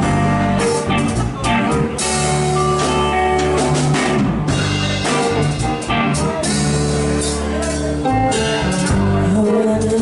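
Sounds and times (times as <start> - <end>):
bass guitar: 0.0 - 10.0
drum kit: 0.0 - 10.0
electric guitar: 0.0 - 10.0.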